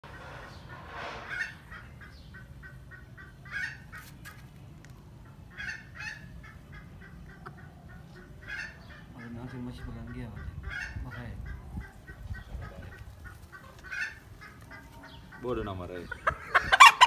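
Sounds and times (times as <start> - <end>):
chickens clucking: 0.0 - 17.0
chickens squawking: 0.1 - 4.5, 5.1 - 17.0.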